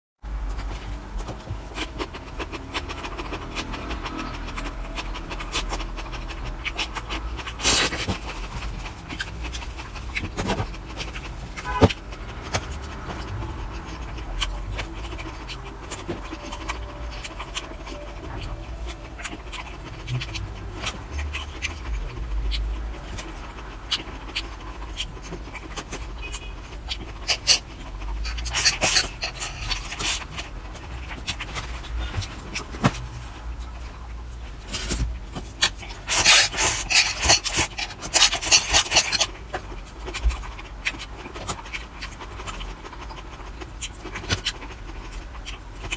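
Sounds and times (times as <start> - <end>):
chewing and mouth noises: 0.3 - 45.9.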